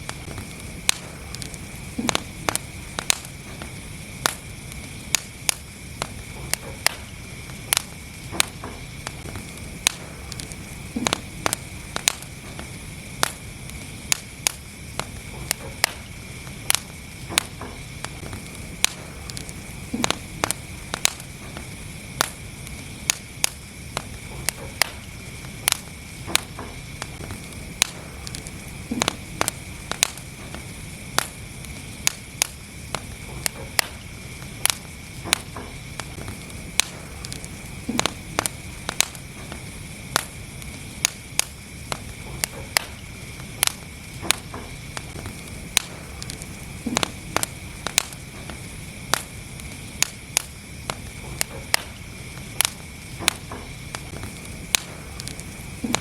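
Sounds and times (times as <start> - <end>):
fire crackling and popping: 0.0 - 56.0
fireplace fire rumble and hiss: 0.0 - 56.0.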